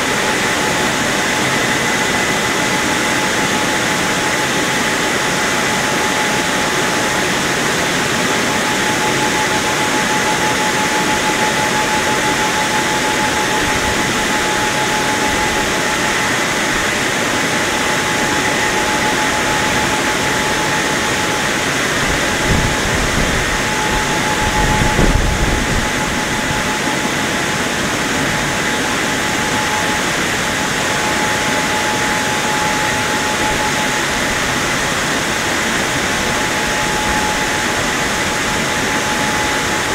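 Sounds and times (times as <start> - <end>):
car wash dryer blowers: 0.0 - 39.9.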